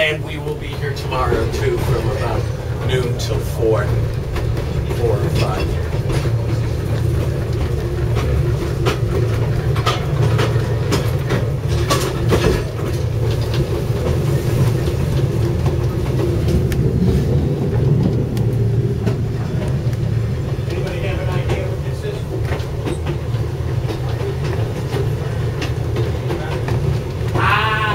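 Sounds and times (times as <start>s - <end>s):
train car rumbling: 0.0s - 27.9s.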